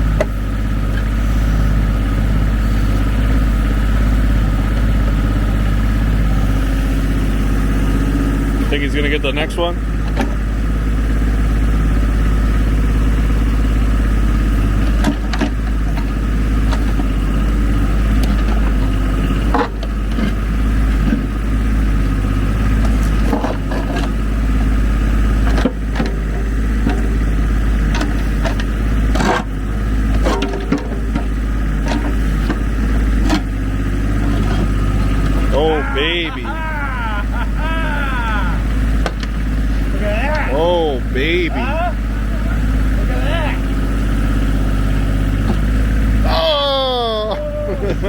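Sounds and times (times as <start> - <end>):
diesel tractor engine running: 0.0 - 48.0
backhoe bucket clanking: 1.9 - 36.6, 38.6 - 46.5.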